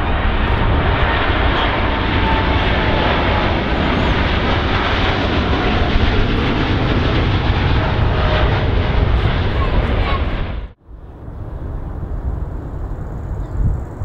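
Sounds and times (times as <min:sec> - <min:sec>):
faint engine whine: 0:00.0 - 0:14.0
jet airliner taking off: 0:00.0 - 0:14.0.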